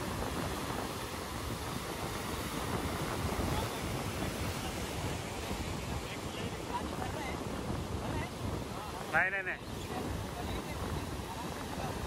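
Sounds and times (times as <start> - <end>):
sea surf breaking on rocks: 0.0 - 12.0
wind buffeting microphone: 0.0 - 12.0.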